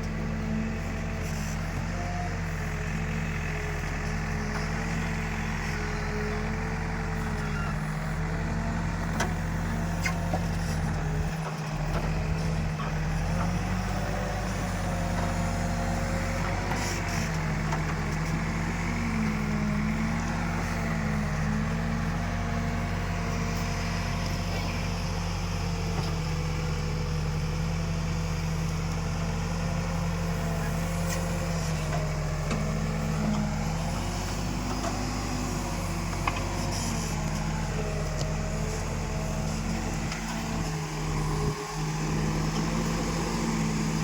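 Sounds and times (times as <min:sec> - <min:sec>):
backhoe diesel engine running: 0:00.0 - 0:44.0.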